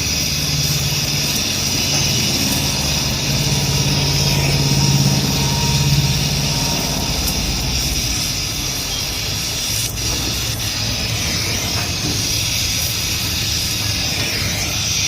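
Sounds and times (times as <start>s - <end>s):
machine hum with high hiss: 0.0s - 15.0s.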